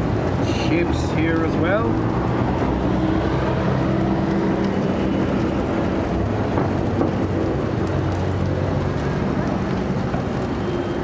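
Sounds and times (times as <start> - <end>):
cars passing and idling: 0.0 - 11.0
low engine hum: 0.0 - 11.0
steady traffic rushing noise: 0.0 - 11.0.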